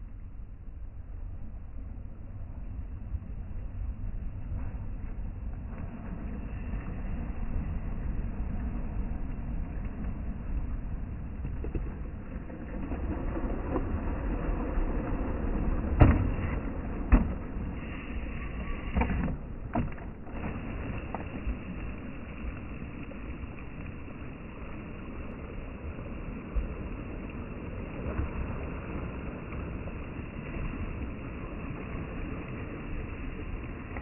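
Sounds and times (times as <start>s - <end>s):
sea and wind rumble: 0.0s - 34.0s.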